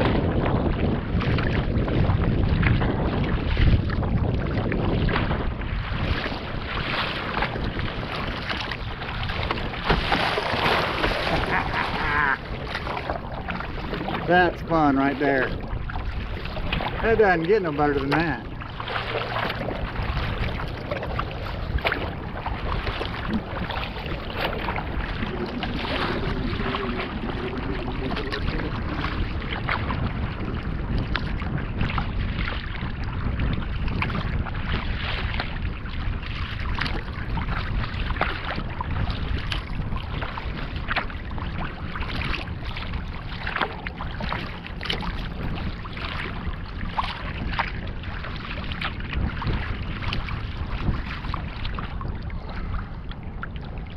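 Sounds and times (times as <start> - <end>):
waves splashing against kayak: 0.0 - 53.9
wind rumble on microphone: 0.0 - 53.9.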